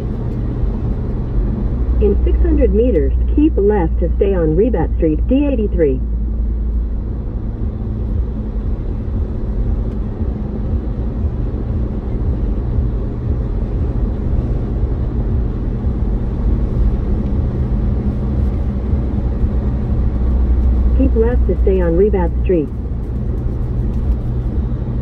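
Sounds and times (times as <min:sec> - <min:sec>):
road and engine rumble in car: 0:00.0 - 0:25.0.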